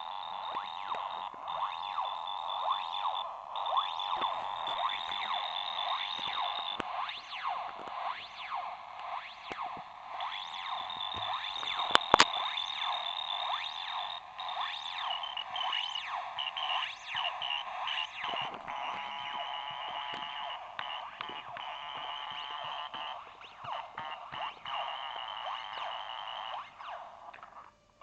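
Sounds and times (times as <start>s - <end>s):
pulsing high tone: 0.0s - 27.1s
electronic chirps and bleeps: 0.0s - 27.6s.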